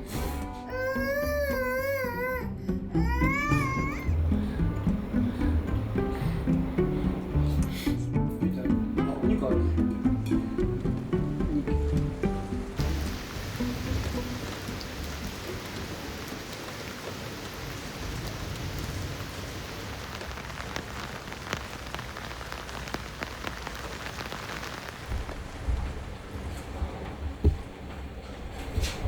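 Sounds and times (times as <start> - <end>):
heavy rain falling: 3.0 - 7.9, 8.6 - 29.0.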